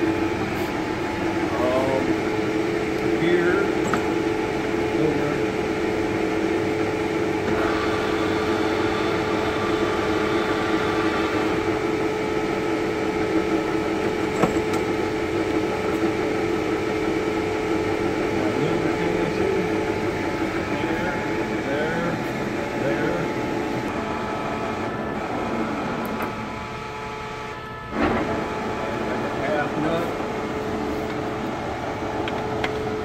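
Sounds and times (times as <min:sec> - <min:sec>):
lathe gear drive hum: 0:00.0 - 0:33.0.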